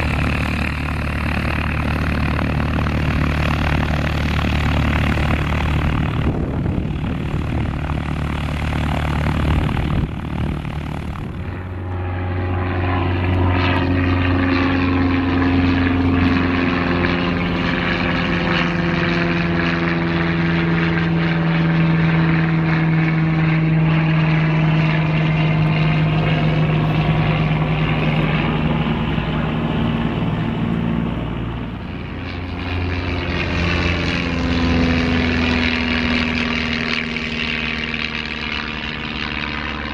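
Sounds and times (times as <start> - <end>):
propeller airplane droning overhead: 0.0 - 39.9.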